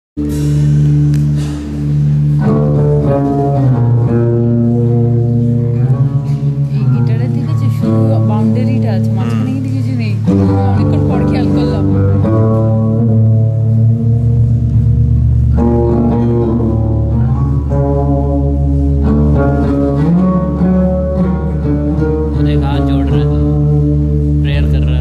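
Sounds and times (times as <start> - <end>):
deep bass: 0.2 - 25.0
electric guitar melody: 0.2 - 25.0.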